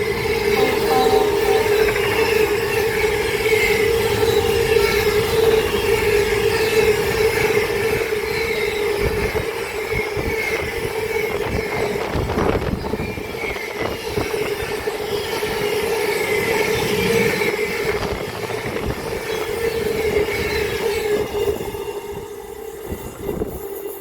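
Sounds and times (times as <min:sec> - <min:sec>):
steady ringing tone: 0:00.0 - 0:24.0
train wheels rumbling and knocking: 0:00.0 - 0:24.0.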